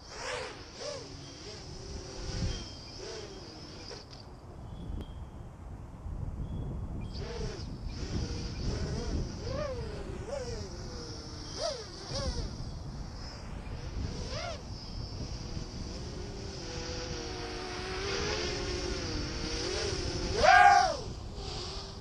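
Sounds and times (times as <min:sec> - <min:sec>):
quadcopter motors whining: 0:00.0 - 0:05.2, 0:06.5 - 0:22.0.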